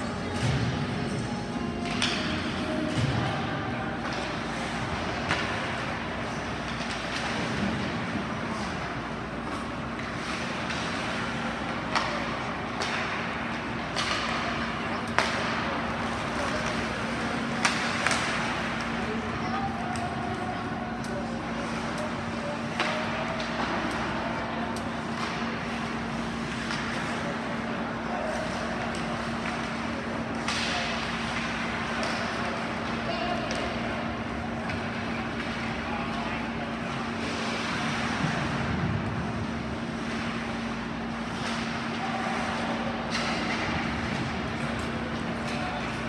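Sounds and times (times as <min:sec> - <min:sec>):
hockey play noise: 0:00.0 - 0:46.0
steady low hum: 0:00.0 - 0:46.0.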